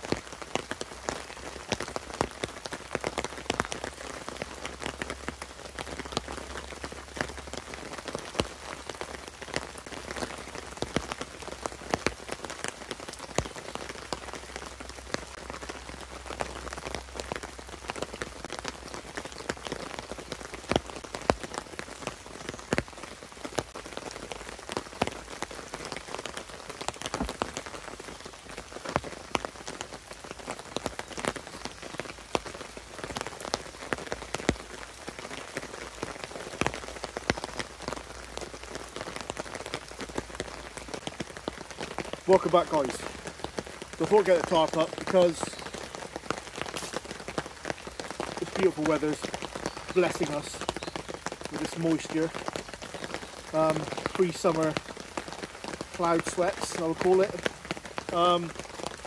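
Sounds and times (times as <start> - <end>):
light rain pattering on a tarp: 0.0 - 59.0.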